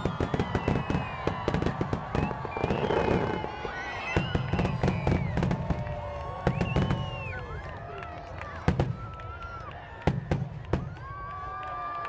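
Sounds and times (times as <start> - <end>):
fireworks bangs and crackles: 0.0 - 12.0
whistling fireworks: 0.0 - 12.0.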